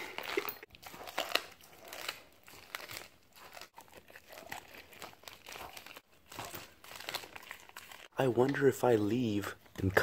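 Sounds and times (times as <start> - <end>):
dog gnawing and licking: 0.0 - 8.2
plastic bag crinkling: 0.0 - 8.3.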